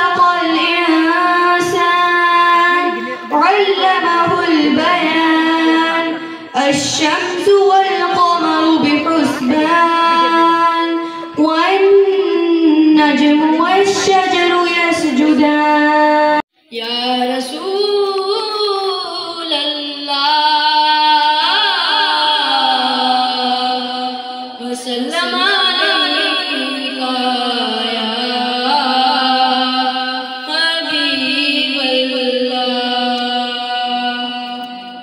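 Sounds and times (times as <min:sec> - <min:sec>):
girl singing unaccompanied: 0:00.0 - 0:34.8.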